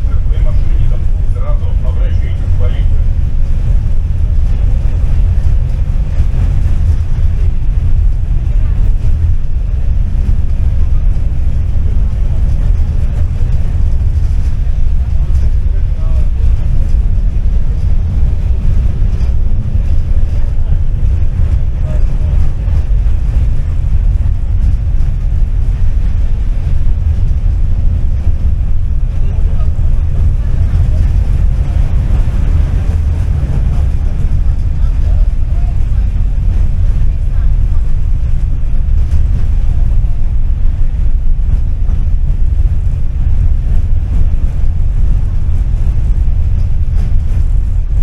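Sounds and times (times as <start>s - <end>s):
tram rumbling along track: 0.0s - 48.0s.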